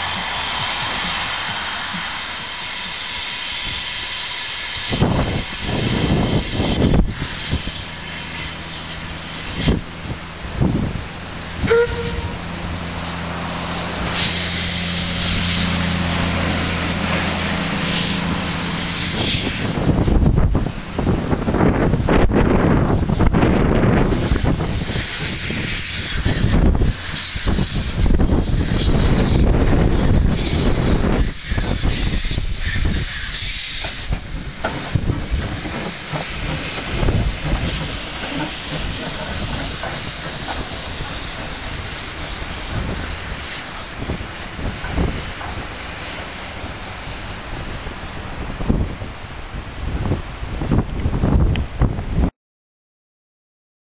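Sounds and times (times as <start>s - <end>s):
wind buffeting microphone: 0.0s - 8.0s, 8.9s - 14.5s, 15.1s - 52.3s
steam locomotive hissing: 0.0s - 50.7s
train rumbling along track: 0.0s - 52.3s.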